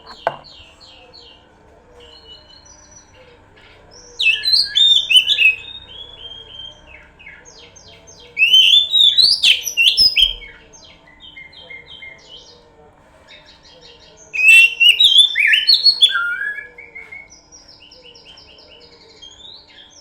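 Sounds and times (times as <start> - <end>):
bird singing: 0.0 - 12.7, 13.3 - 20.0.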